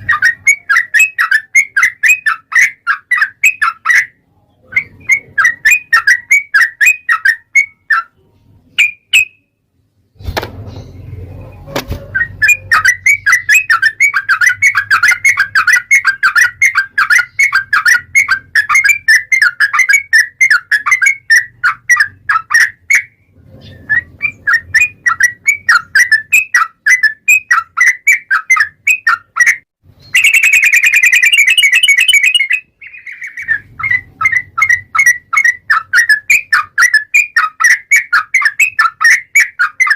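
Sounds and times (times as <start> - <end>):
bulbul chirping song: 0.0 - 9.7, 10.7 - 39.9.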